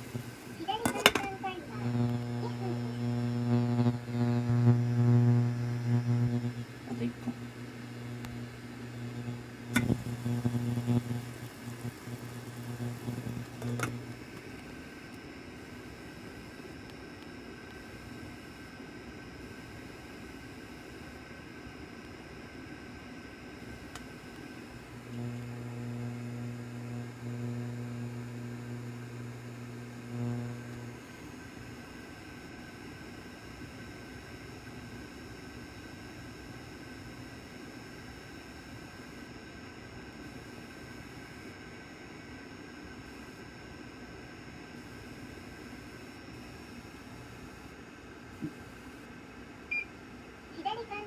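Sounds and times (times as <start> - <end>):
low electrical motor hum: 0.0 - 51.0.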